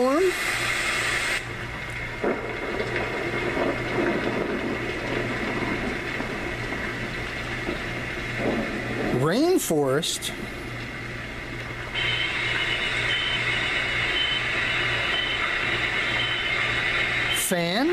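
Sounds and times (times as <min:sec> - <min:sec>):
rain-like hiss from small speaker: 0:00.0 - 0:17.9
low rumble: 0:01.5 - 0:17.4.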